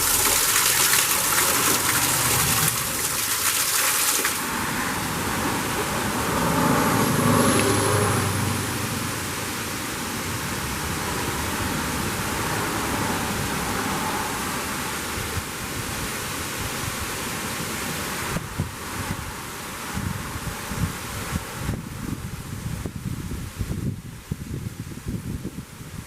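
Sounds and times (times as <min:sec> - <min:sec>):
waterfall rushing: 0:00.0 - 0:21.6.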